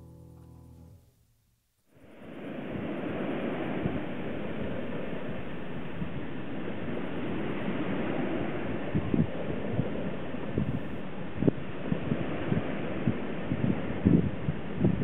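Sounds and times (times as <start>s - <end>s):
sea surf rushing: 2.0s - 14.8s
wind on microphone: 2.1s - 15.0s.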